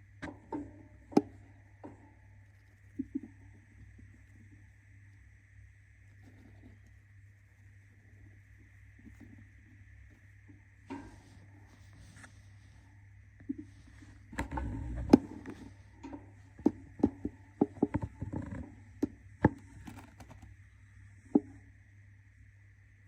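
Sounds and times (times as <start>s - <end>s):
steady hum: 0.0s - 23.0s
bird tapping and scratching in cage: 0.2s - 5.3s, 5.9s - 20.6s.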